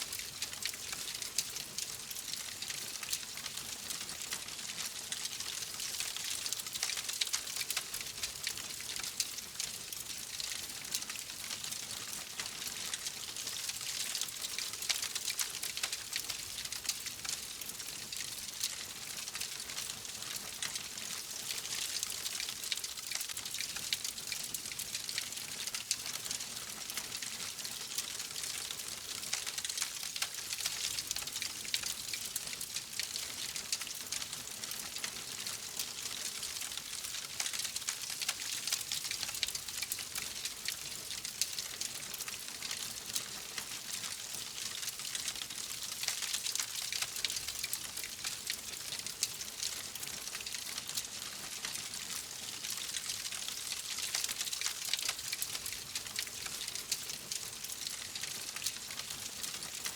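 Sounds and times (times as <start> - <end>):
fireplace fire crackling: 0.0 - 44.0, 44.6 - 51.0.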